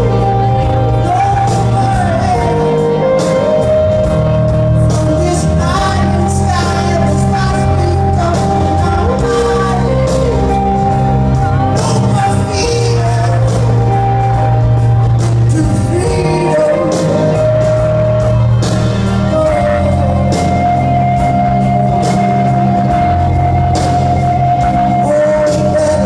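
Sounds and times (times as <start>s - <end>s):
man singing long notes: 0.0s - 18.3s, 19.3s - 26.0s
live rock band playing: 0.0s - 26.0s.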